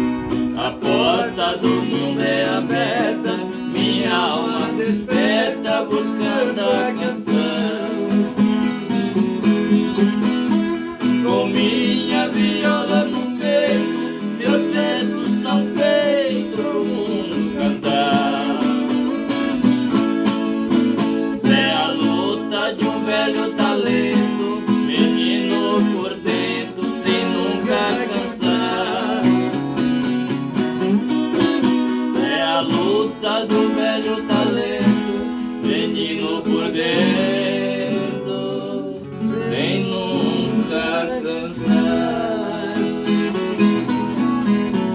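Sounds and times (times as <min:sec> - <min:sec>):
plucked ten-string guitar music: 0:00.0 - 0:44.9.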